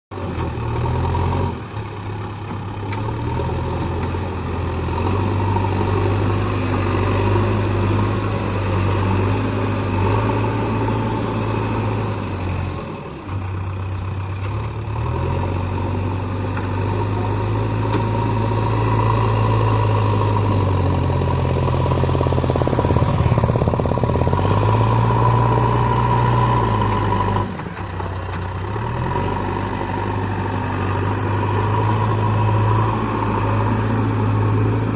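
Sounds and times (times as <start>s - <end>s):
diesel engine under load: 0.1s - 34.9s.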